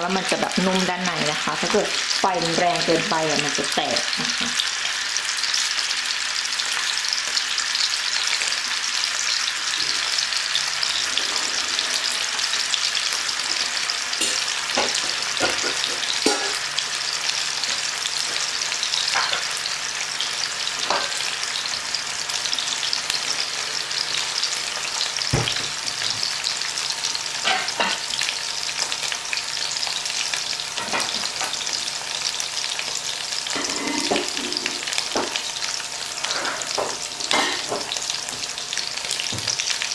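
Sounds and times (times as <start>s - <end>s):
sausages sizzling in oil: 0.0s - 39.9s.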